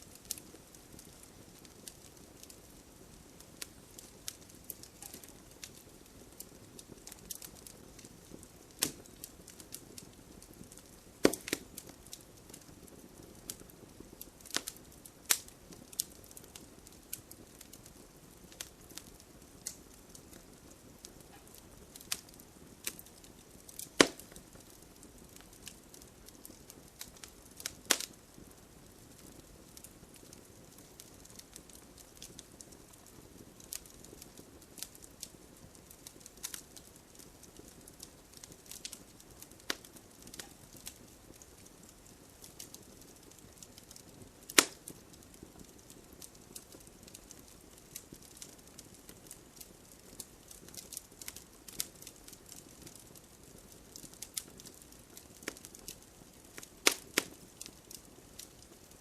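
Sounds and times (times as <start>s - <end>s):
fire hissing: 0.0s - 32.7s, 35.9s - 45.4s, 46.2s - 59.0s
wood fire crackling and popping: 0.0s - 59.0s.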